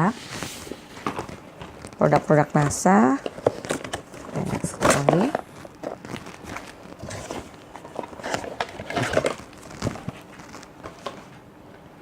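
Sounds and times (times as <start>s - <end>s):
paper and packaging being handled: 0.0s - 11.4s.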